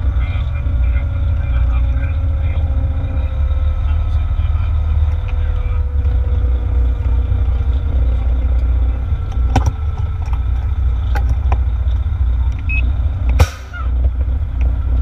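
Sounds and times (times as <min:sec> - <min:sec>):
fire engine rumbling: 0:00.0 - 0:15.0.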